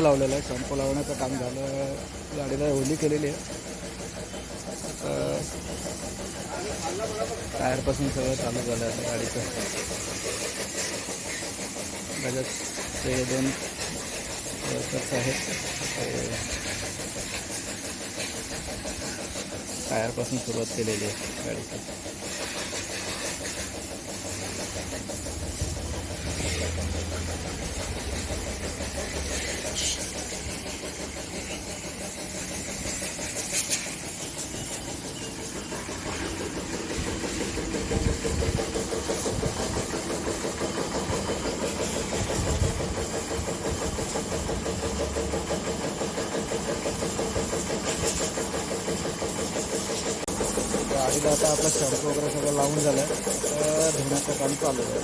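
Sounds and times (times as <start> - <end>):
washer pump motor running: 0.0 - 55.0
water spray hissing: 0.0 - 55.0.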